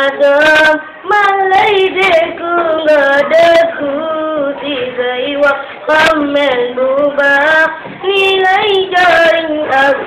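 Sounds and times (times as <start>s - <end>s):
girl chanting melodic recitation: 0.0s - 10.0s.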